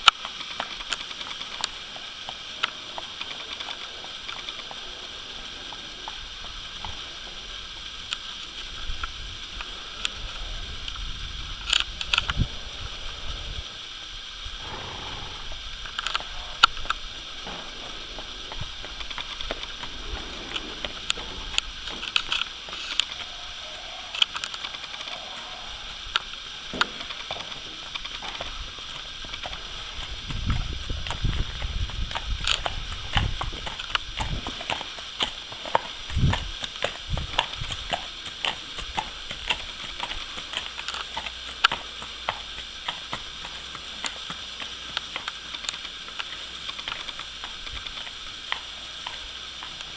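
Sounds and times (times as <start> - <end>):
horse hoofbeats on hard lane: 0.0 - 10.8, 14.6 - 49.9.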